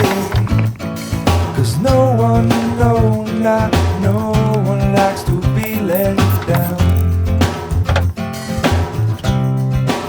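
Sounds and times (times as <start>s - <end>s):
song with guitar bass and drums: 0.0s - 10.0s.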